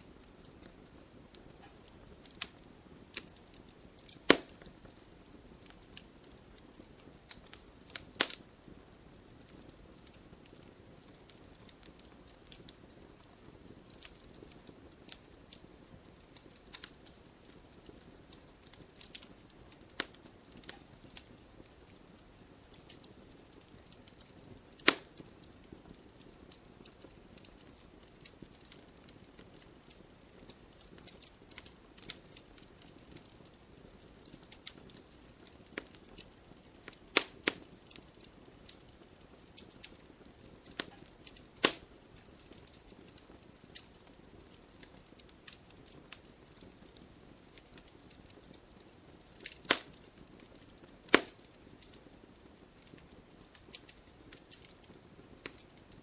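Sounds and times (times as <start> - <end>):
loud fire pops: 0.0 - 8.8, 9.4 - 52.0
wood fire crackling: 0.0 - 56.0.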